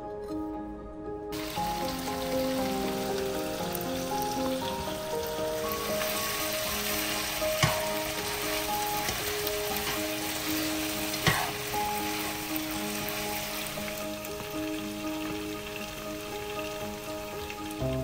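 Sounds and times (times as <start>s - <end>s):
background music: 0.0s - 18.0s
food sizzling in hot oil: 1.4s - 18.0s.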